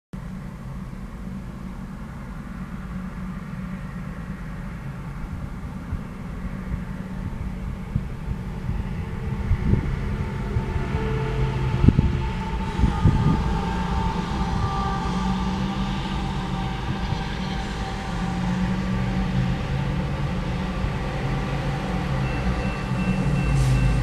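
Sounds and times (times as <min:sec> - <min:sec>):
diesel engine droning: 0:00.2 - 0:24.0.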